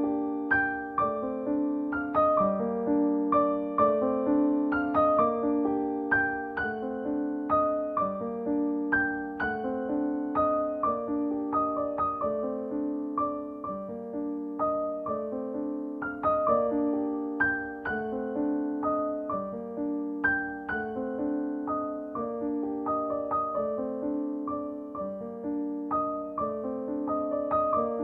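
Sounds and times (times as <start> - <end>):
soft piano music: 0.0 - 28.0.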